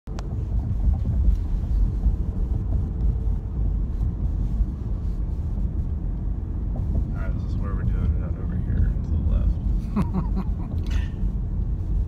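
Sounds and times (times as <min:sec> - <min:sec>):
road and tyre rumble: 0:00.1 - 0:12.0.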